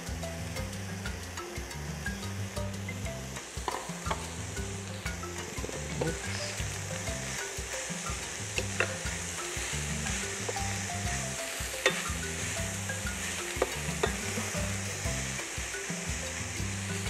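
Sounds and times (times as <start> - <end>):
frying sizzle: 0.0 - 17.0
spatula stirring in a pan: 0.4 - 17.0.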